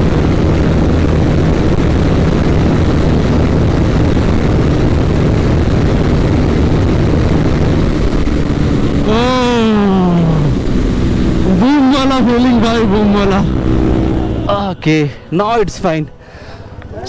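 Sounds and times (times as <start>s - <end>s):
motorcycle engine running: 0.0s - 16.2s
steady rushing noise: 0.0s - 17.0s.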